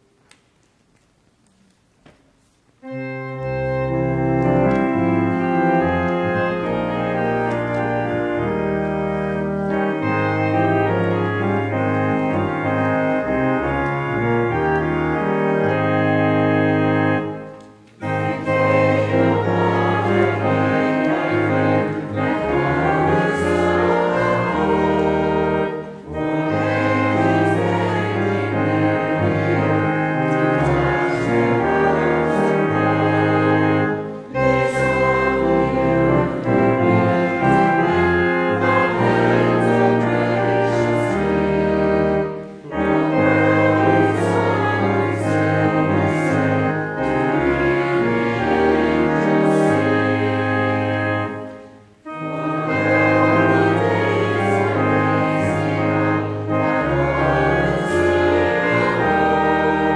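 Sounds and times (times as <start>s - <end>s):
church organ playing a carol: 2.7s - 59.9s.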